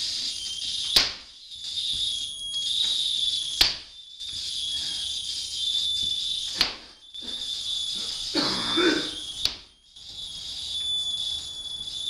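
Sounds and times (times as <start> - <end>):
high-pitched electronic noise: 0.0 - 12.0.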